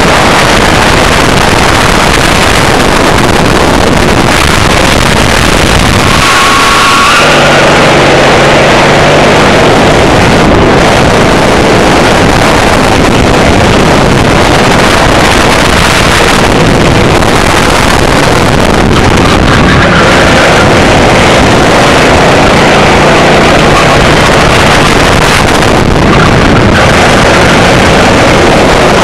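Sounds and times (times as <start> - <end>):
kart engine running at speed: 0.0 - 29.0
wind buffeting on microphone: 0.0 - 29.0.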